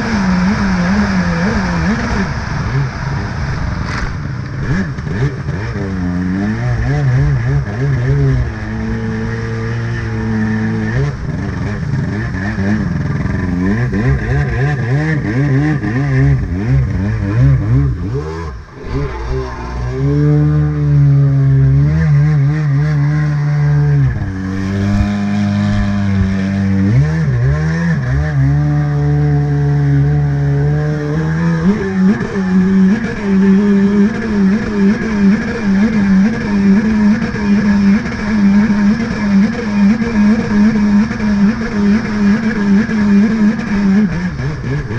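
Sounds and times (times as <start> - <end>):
jet ski engine running: 0.0 - 30.4, 31.0 - 44.9.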